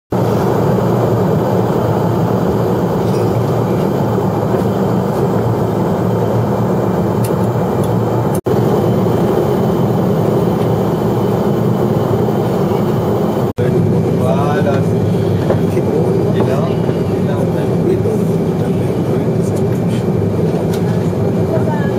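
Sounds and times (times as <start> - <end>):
jet engine rumble in cabin: 0.1 - 21.9.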